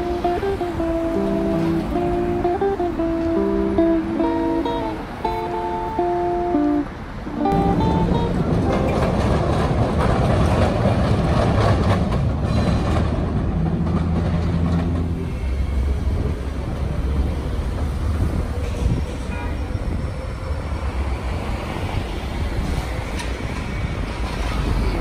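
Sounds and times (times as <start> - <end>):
street traffic: 0.0 - 25.0
trolleybus hum and rumble: 0.0 - 25.0.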